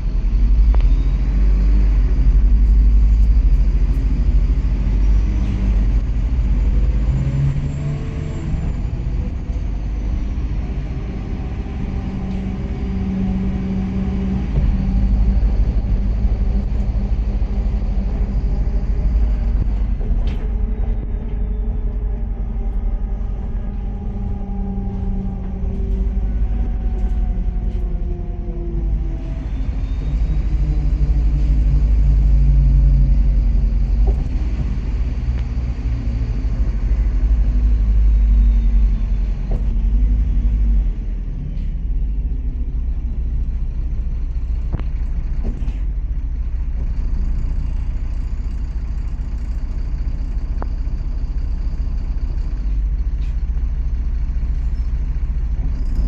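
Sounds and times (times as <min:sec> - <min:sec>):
bus engine rumbling: 0:00.0 - 0:56.0
road noise: 0:00.0 - 0:56.0.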